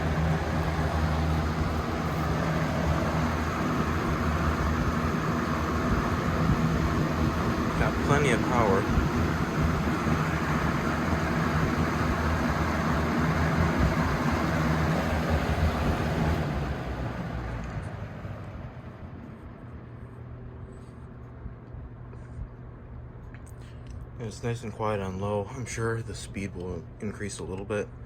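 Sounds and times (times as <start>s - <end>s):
box fan air rush: 0.0s - 26.9s
fan motor hum: 0.0s - 28.0s.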